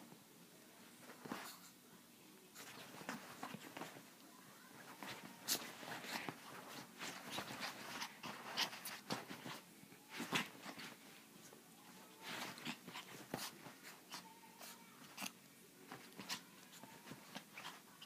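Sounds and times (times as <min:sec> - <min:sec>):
bedding rustling: 0:00.8 - 0:01.8, 0:02.5 - 0:18.0
dog scuffling: 0:01.0 - 0:01.7, 0:02.5 - 0:18.0.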